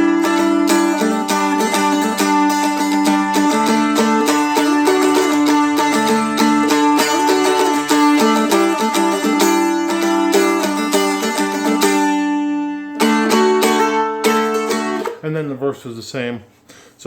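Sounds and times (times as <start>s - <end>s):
dulcimer strummed chords: 0.0s - 15.2s.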